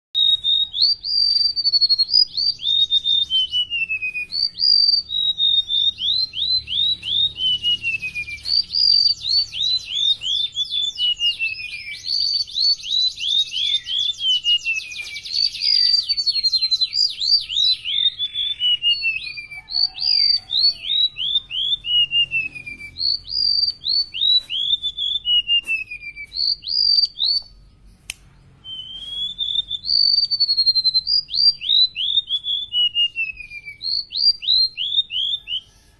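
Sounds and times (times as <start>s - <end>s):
bird singing high whistled notes: 0.2s - 27.7s, 28.6s - 35.9s.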